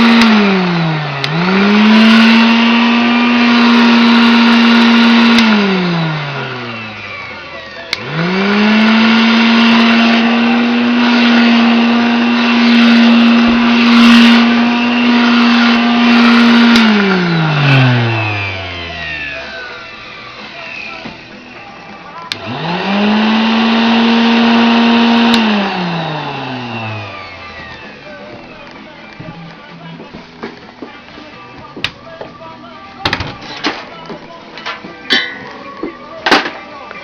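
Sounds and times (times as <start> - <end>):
handheld vacuum cleaner whining: 0.0 - 32.2.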